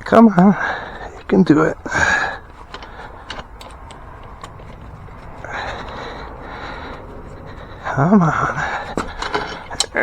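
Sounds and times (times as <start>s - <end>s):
drive chain clicking and rattling: 0.0s - 10.0s.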